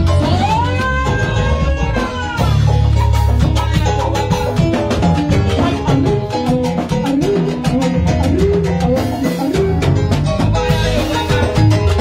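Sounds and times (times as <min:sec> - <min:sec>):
drum kit: 0:00.0 - 0:12.0
guiro scraping rhythm: 0:00.0 - 0:12.0
salsa band playing: 0:00.0 - 0:12.0.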